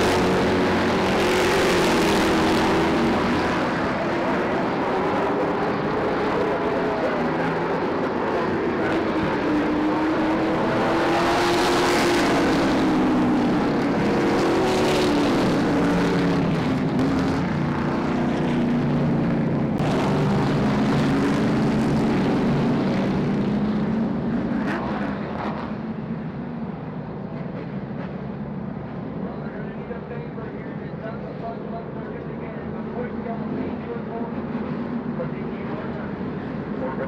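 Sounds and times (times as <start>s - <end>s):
race car engines passing: 0.0s - 37.0s.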